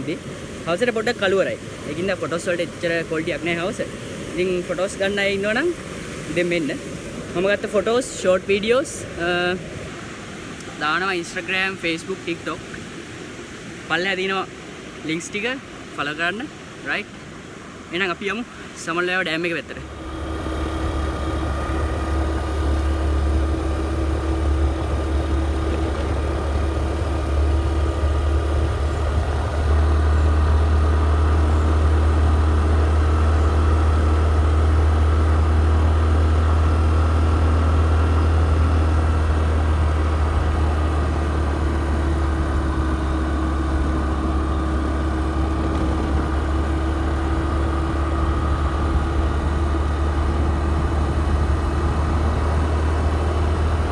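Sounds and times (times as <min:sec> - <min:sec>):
vehicle engine and road rumble: 0:00.0 - 0:18.2, 0:19.1 - 0:53.9.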